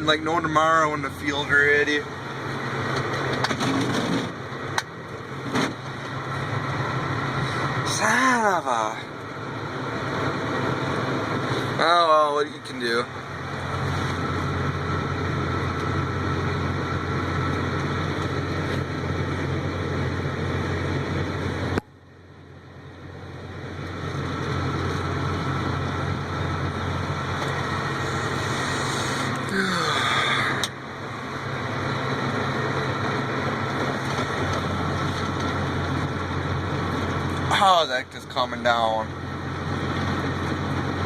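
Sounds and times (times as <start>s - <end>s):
vehicle engine idling: 0.0s - 41.0s.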